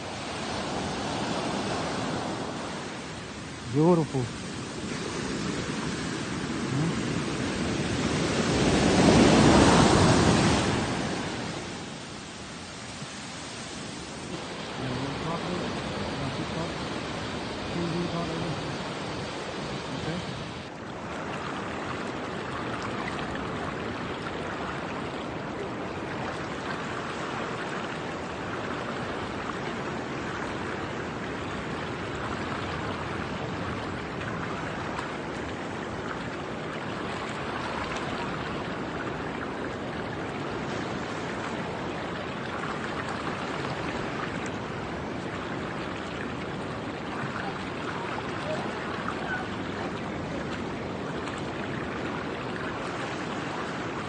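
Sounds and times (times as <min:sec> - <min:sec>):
ocean surf rushing: 0:00.0 - 0:54.0.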